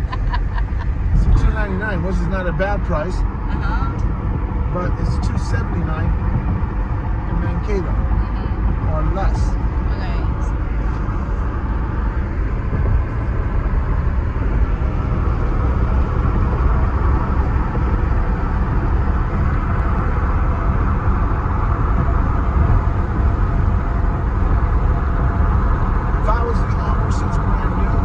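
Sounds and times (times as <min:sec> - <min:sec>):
car road and engine noise: 0:00.0 - 0:28.0.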